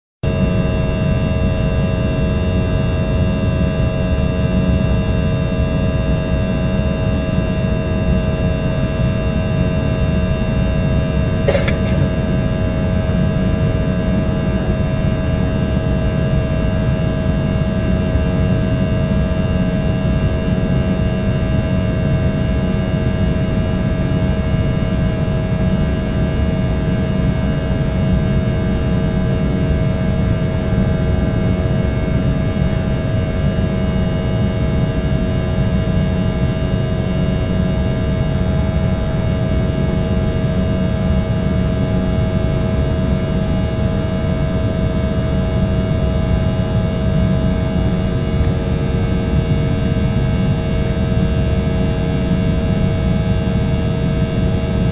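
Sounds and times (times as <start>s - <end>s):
airplane cabin engine noise: 0.2s - 54.9s.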